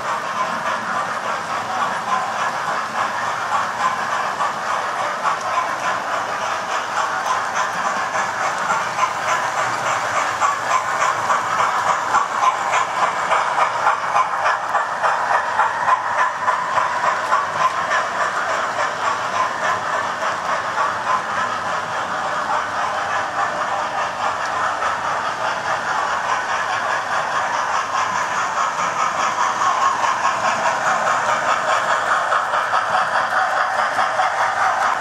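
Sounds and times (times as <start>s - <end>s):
model trains whirring: 0.0s - 35.0s
wheels clicking on track: 0.0s - 35.0s.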